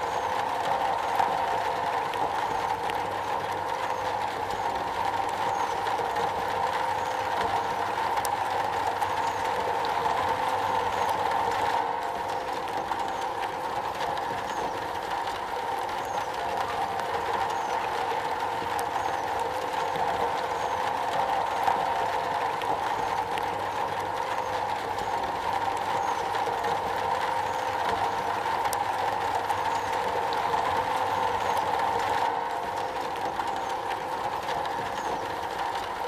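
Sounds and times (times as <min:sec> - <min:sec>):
rain on a metal roof: 0:00.0 - 0:36.0.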